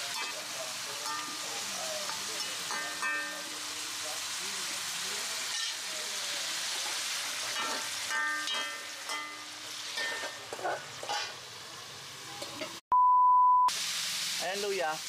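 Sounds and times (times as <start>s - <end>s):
food sizzling in a wok: 0.0s - 12.8s, 13.7s - 15.0s.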